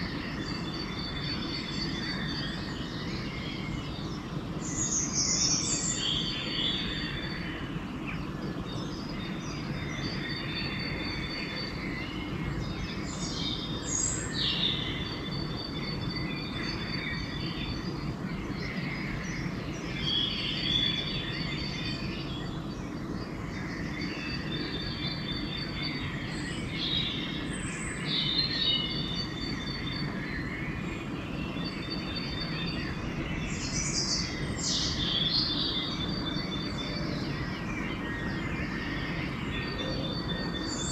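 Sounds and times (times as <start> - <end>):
songbirds singing and calling: 0.0 - 40.9.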